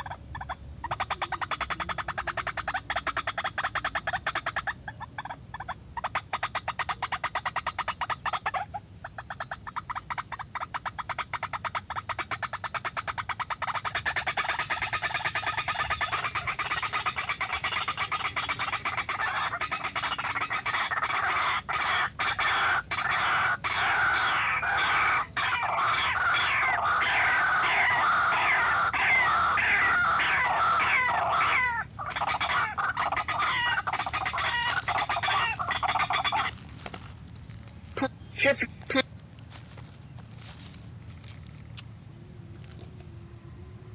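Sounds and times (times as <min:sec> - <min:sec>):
waterhen calling harsh clucking: 0:00.0 - 0:37.0, 0:37.9 - 0:39.1.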